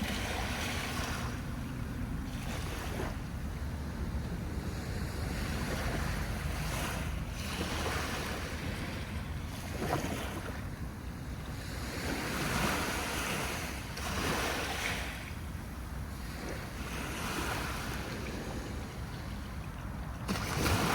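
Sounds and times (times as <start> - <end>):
ocean waves breaking on shore: 0.0 - 20.9
wind buffeting microphone: 0.0 - 20.9.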